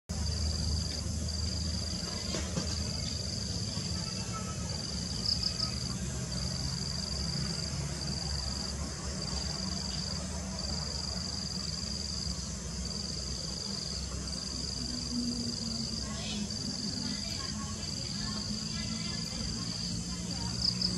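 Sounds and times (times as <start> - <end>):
insects trilling: 0.1 - 20.9.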